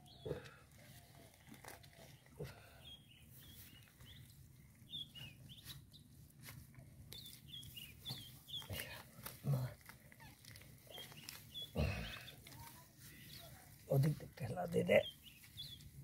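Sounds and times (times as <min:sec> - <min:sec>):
birds chirping: 0:00.0 - 0:00.7, 0:02.1 - 0:06.2, 0:07.0 - 0:16.0.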